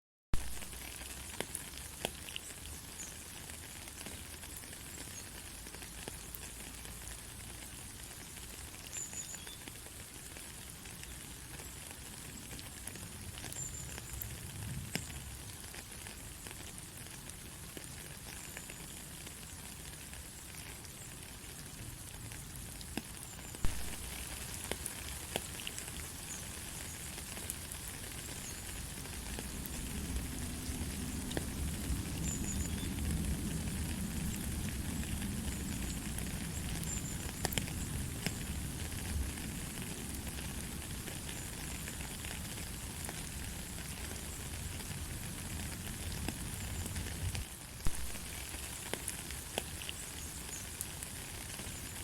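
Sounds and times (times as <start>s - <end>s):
light rain: 0.4s - 52.0s
raindrops ticking: 0.4s - 52.0s.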